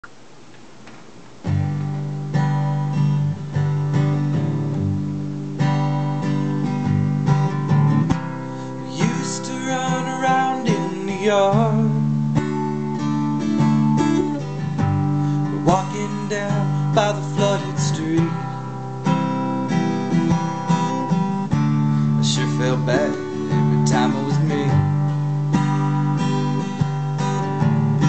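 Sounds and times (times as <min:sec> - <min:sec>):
acoustic guitar strumming: 0:01.1 - 0:28.0.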